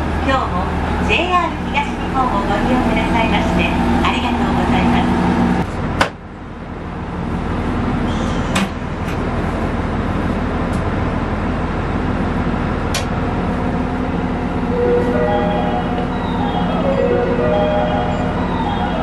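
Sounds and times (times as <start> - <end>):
diesel railcar engine hum: 0.0 - 19.0.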